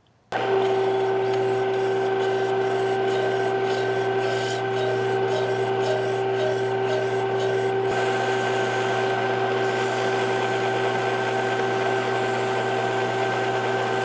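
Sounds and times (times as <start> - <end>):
machine motor humming whine: 0.4 - 14.0
hand file rasping: 0.6 - 14.0.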